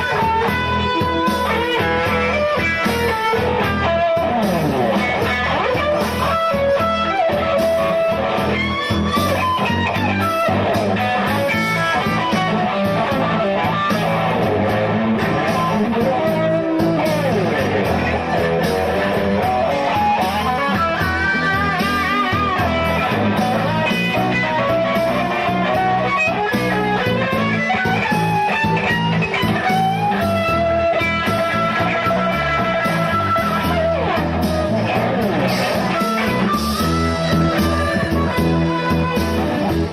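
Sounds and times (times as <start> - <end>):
bass guitar: 0.0 - 39.9
electric guitar lead: 0.0 - 39.9
steady drum beat: 0.0 - 39.9.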